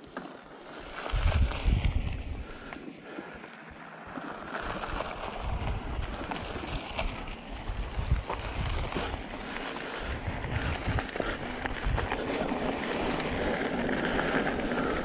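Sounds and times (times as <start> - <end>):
bike tyres on dirt: 0.0 - 15.0
bike rattling: 0.2 - 15.0
wind rumbling on microphone: 0.8 - 2.7, 3.7 - 15.0.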